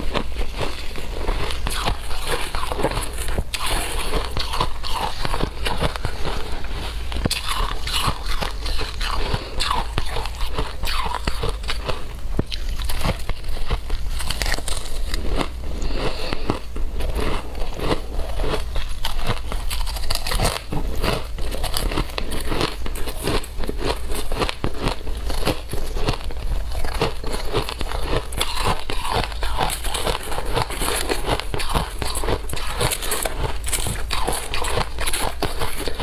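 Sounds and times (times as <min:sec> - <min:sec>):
person chewing shaved ice: 0:00.0 - 0:36.0.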